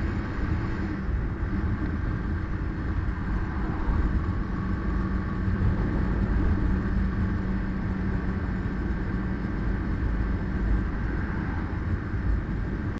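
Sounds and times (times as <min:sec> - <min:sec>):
car engine and road rumble: 0:00.0 - 0:12.9.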